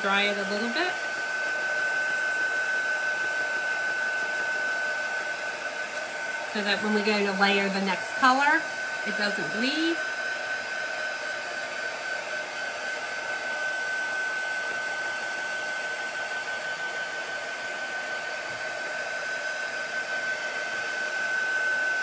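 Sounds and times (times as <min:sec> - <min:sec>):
heat tool blowing with fan whine: 0:00.0 - 0:22.0.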